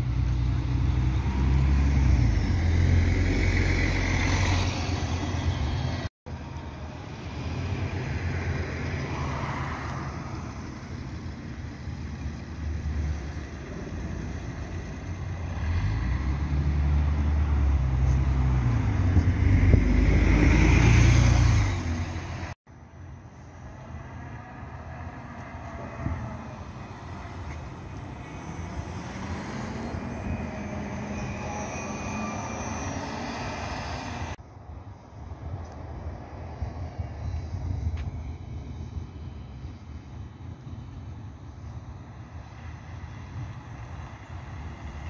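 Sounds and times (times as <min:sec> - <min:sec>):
bus pulling away: 0:00.0 - 0:22.6, 0:23.4 - 0:34.4, 0:36.2 - 0:45.0
bus passing with tyre noise: 0:00.0 - 0:45.0.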